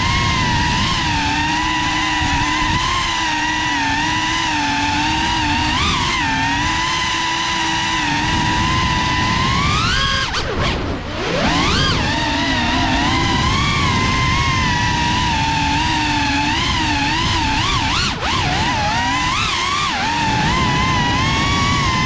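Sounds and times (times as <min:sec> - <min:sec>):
drone propellers whining: 0:00.0 - 0:22.0
prop wash rumble: 0:00.0 - 0:22.0.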